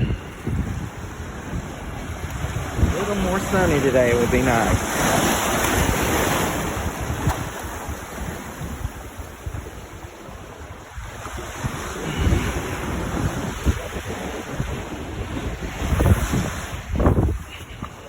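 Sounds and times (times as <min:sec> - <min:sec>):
surf breaking on beach: 0:00.0 - 0:18.0
wind on microphone: 0:00.0 - 0:18.0.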